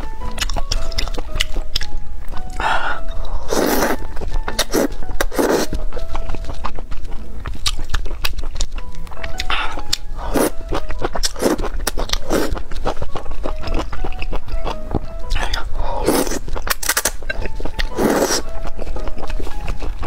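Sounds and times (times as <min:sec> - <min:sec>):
background music: 0:00.0 - 0:20.0
woman chewing noodles: 0:00.0 - 0:20.0.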